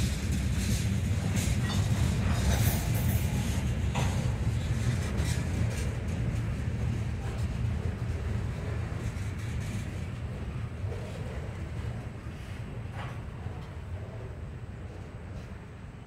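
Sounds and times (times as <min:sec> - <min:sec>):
steel wheels rumbling on rail: 0:00.0 - 0:16.0
train cars clanking: 0:00.0 - 0:16.0.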